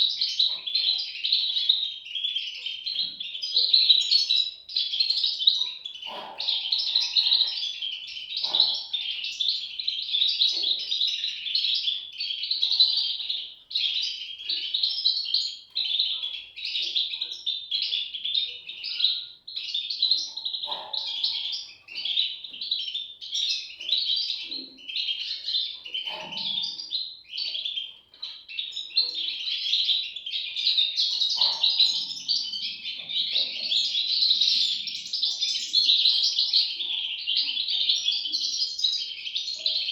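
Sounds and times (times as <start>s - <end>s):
chicks chirping: 0.0s - 39.9s.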